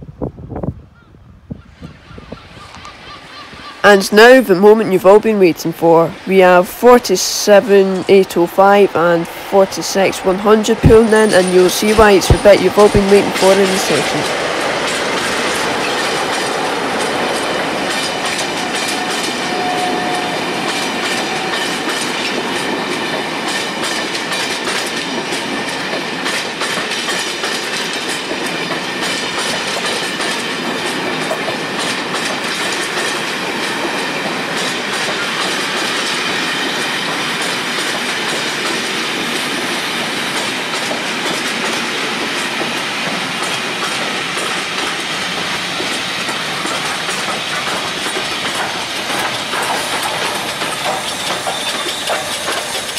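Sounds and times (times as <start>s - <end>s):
train wheels rumbling over rail joints: 9.9s - 52.9s.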